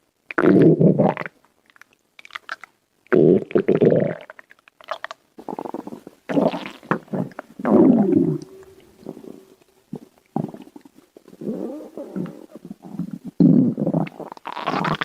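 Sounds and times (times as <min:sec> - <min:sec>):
stomach growling: 0:00.3 - 0:15.0.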